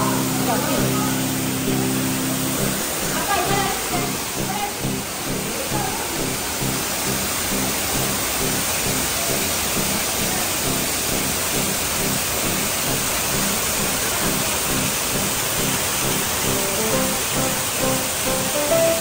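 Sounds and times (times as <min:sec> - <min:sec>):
music with low beat: 0:00.0 - 0:19.0
waterfall pouring: 0:00.0 - 0:19.0.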